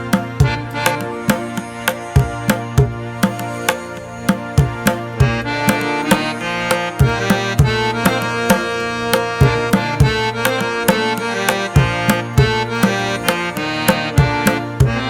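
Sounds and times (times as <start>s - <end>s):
melody of held notes: 0.0s - 15.0s
steady drum beat: 0.0s - 15.0s.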